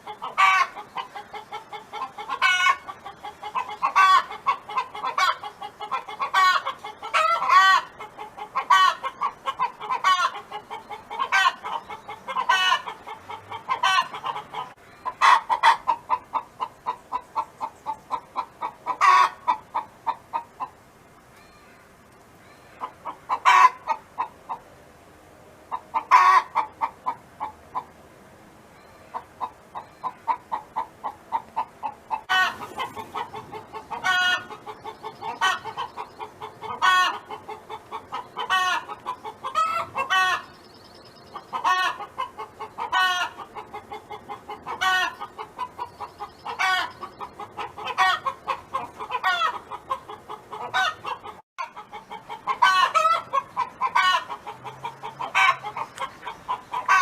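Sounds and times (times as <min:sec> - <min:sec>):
hen clucking: 0:00.0 - 0:20.8, 0:22.4 - 0:24.7, 0:25.7 - 0:28.0, 0:28.8 - 0:57.0.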